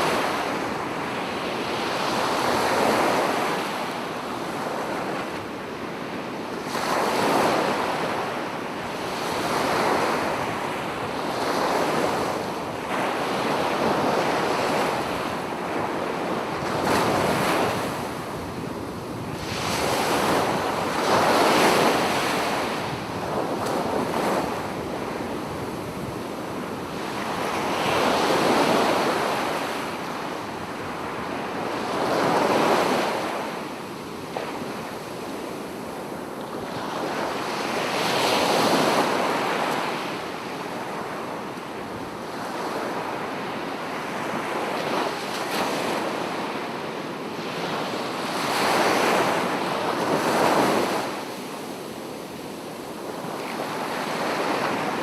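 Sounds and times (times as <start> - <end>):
sea waves breaking on beach: 6.3 - 55.0.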